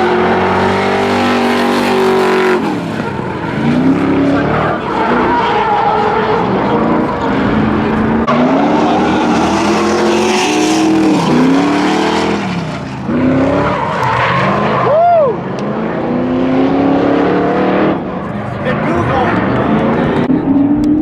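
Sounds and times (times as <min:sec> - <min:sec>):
car engines revving: 0:00.0 - 0:21.0
tyres skidding: 0:00.0 - 0:21.0.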